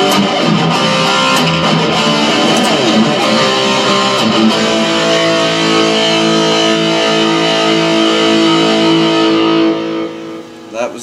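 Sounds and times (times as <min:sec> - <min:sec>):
distorted electric guitar chord: 0:00.0 - 0:10.7.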